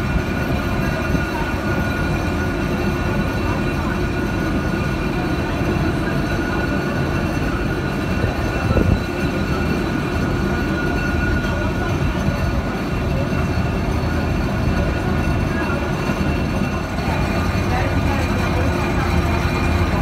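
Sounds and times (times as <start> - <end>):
faint high whining tones: 0.0 - 20.0.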